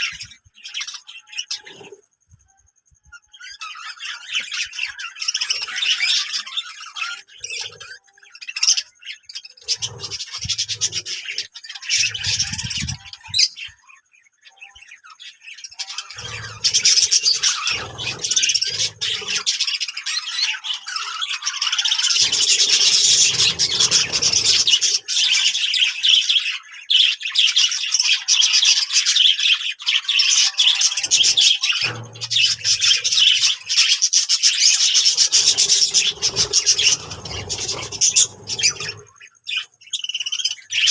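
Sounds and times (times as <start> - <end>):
parrots chattering and squawking: 0.0 - 40.9.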